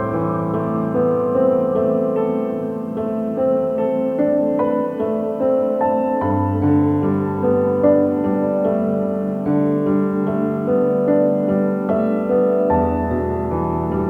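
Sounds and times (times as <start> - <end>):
soft slow piano music: 0.0 - 14.0.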